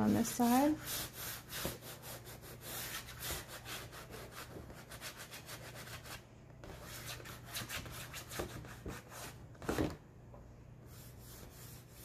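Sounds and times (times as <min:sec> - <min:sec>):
chalk scratching on board: 0:00.4 - 0:09.4, 0:10.9 - 0:12.0.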